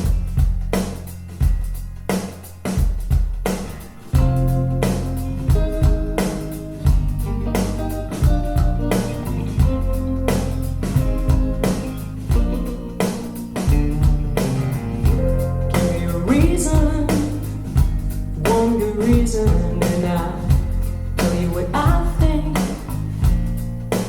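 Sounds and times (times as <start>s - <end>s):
rock song with singing: 4.2s - 24.0s.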